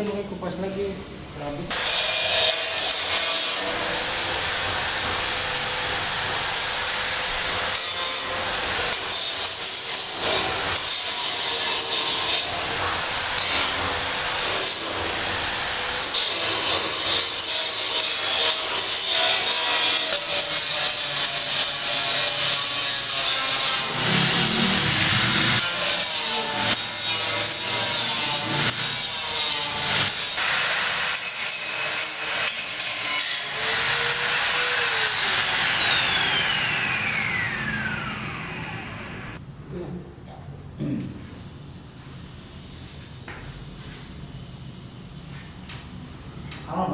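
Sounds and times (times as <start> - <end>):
scraping and sawing: 1.7 - 39.3
power tool whine: 1.7 - 39.4.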